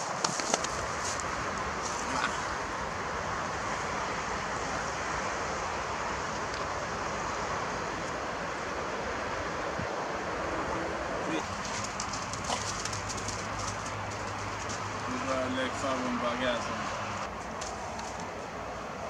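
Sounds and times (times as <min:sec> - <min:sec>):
outdoor background rushing hiss: 0:00.0 - 0:19.0.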